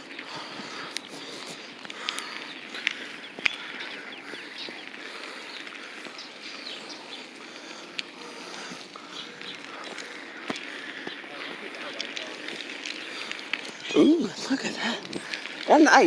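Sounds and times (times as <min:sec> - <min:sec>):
birds chirping: 0:00.0 - 0:16.0
steady outdoor hiss: 0:00.0 - 0:16.0.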